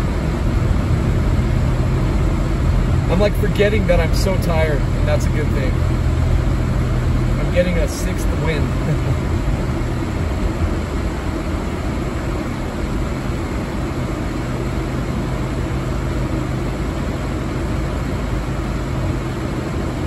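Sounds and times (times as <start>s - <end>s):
car engine and road hum: 0.0s - 20.0s
tyres on wet road: 0.0s - 20.0s.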